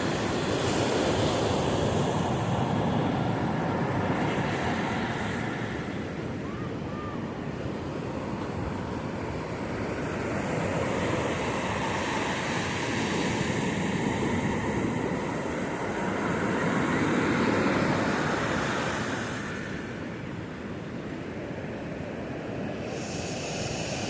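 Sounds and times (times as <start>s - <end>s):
sea waves washing onto beach: 0.0s - 24.0s.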